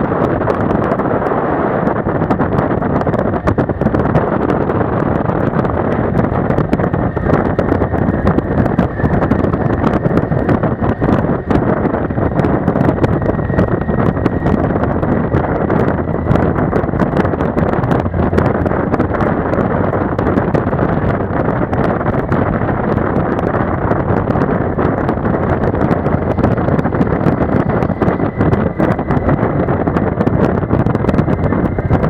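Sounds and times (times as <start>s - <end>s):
motorcycle engine: 0.0s - 32.0s
road noise: 0.0s - 32.0s
wind buffeting microphone: 0.0s - 32.0s.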